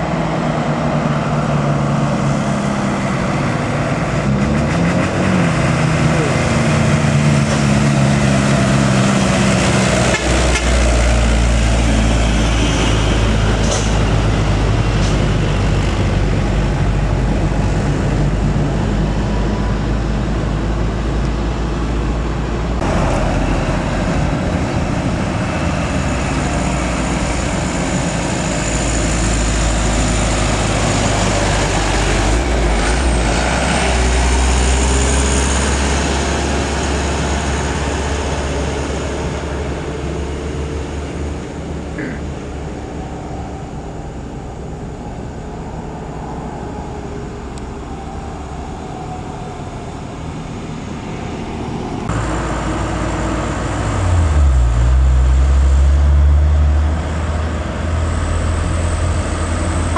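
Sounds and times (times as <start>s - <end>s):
truck diesel engines passing: 0.0s - 59.9s
tyre and road noise: 0.0s - 59.9s.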